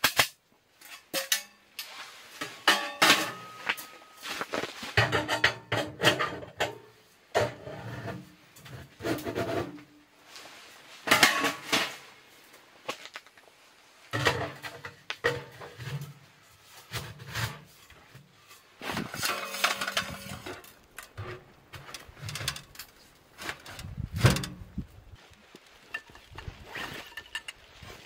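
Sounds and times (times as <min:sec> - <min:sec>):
metal pipes scraping and clanking: 0:00.8 - 0:12.1, 0:14.1 - 0:28.0.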